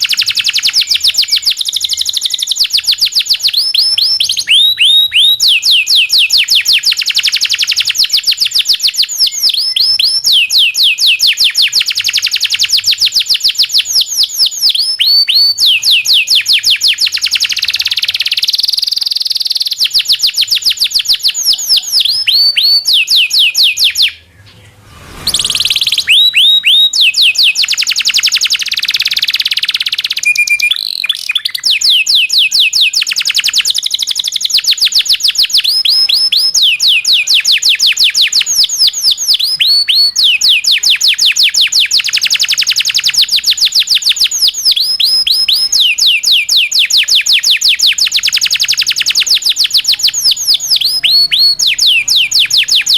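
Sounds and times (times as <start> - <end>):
canary singing fast trills: 0.0 - 52.9.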